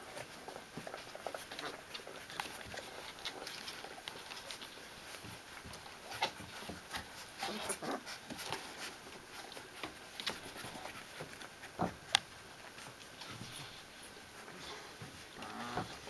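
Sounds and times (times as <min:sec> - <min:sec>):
paws scratching and rustling: 0:00.0 - 0:16.0.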